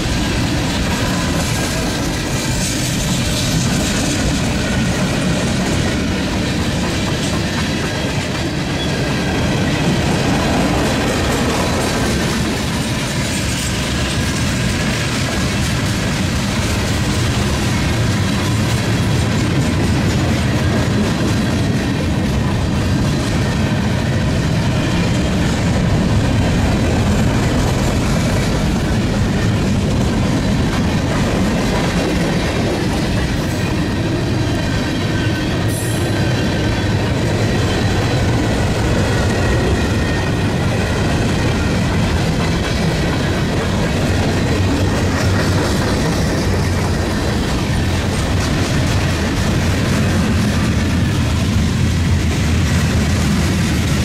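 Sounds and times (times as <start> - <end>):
train wheels rumbling on rails: 0.0 - 54.0
wheels clacking over rail joints: 0.0 - 54.0.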